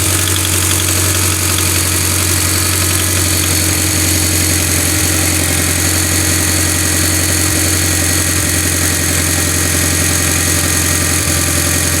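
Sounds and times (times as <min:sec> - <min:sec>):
car engine idling with knock: 0:00.0 - 0:12.0.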